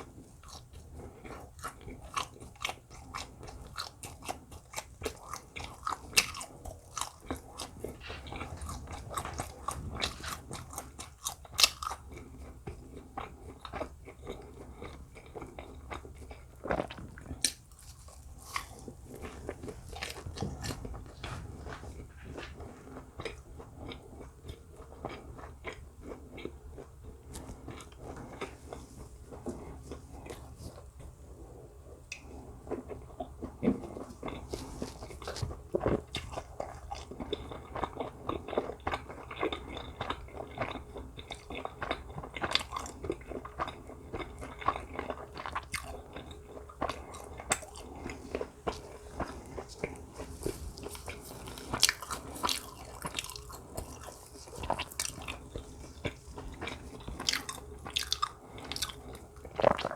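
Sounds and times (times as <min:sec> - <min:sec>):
biting and chewing crunchy food: 0:00.0 - 0:31.2, 0:31.9 - 0:59.9.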